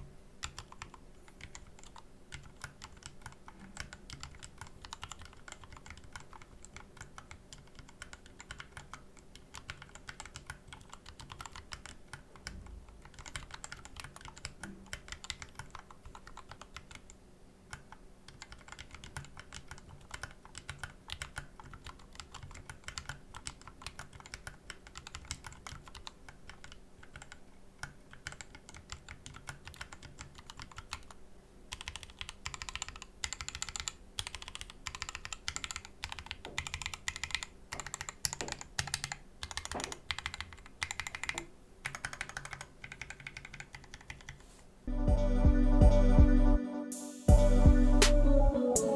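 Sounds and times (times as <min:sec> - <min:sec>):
typing on mechanical keyboard: 0:00.4 - 0:44.5.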